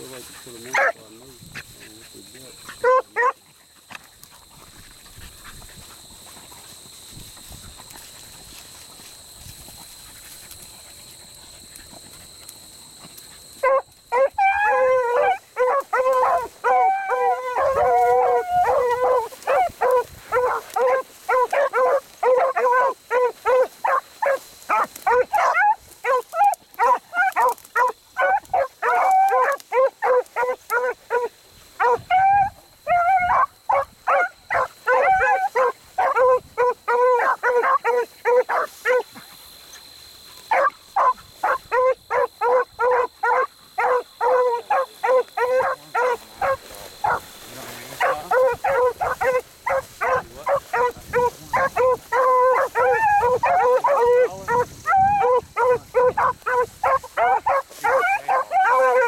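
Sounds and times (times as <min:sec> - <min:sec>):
dogs baying: 0:00.0 - 0:01.0, 0:01.6 - 0:09.0, 0:09.6 - 0:39.6, 0:40.4 - 0:59.0.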